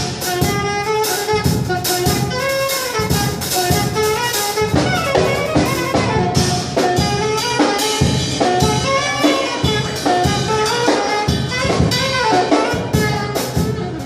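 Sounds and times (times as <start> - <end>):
drum kit beat: 0.0 - 14.0
saxophone jazz melody: 0.0 - 14.0.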